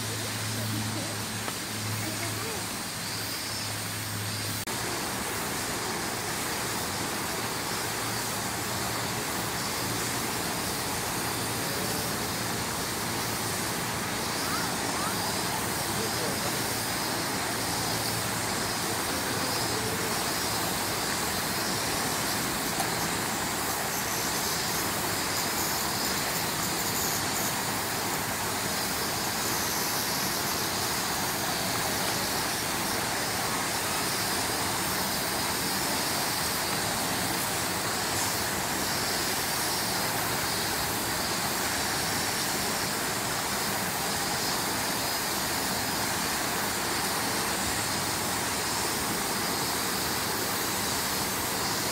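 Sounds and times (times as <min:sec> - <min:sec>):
outdoor background hiss: 0:00.0 - 0:51.9.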